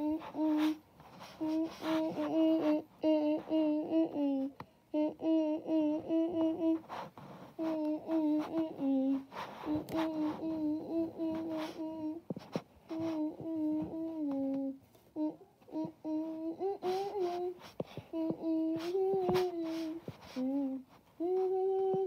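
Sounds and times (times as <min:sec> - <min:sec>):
high-pitched voice humming: 0:00.0 - 0:07.0, 0:07.6 - 0:12.3, 0:12.9 - 0:22.0.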